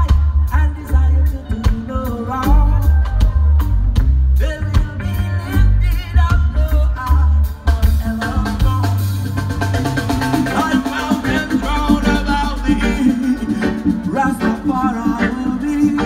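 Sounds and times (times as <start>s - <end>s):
person singing: 0.0s - 9.5s, 10.3s - 16.0s
drum kit: 0.0s - 16.0s
heavy bass line: 0.0s - 16.0s
live reggae band playing: 0.0s - 16.0s.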